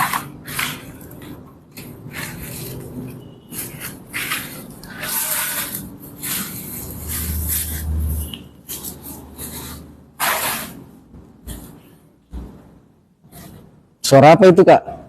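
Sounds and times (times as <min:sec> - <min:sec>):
rustling and scraping swishes: 0:00.0 - 0:12.6.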